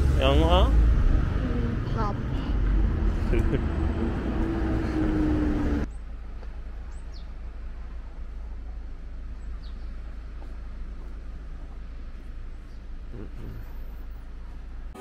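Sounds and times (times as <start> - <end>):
street traffic: 0.0 - 15.0
vehicle engine hum: 0.0 - 15.0.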